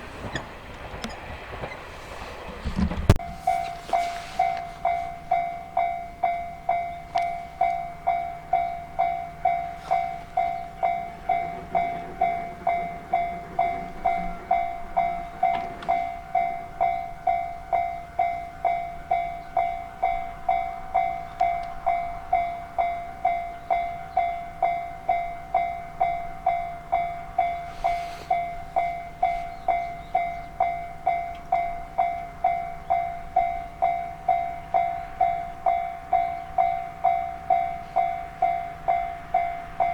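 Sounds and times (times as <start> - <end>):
level-crossing warning bell: 3.1 - 39.9.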